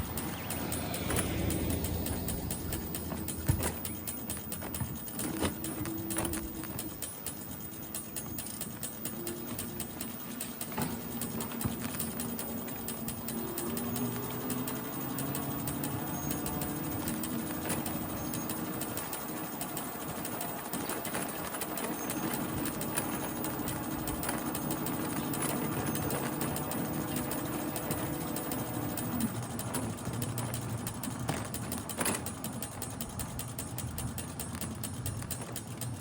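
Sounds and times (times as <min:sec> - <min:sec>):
bike mechanical clicking: 0:00.0 - 0:36.0
low hum: 0:00.0 - 0:36.0.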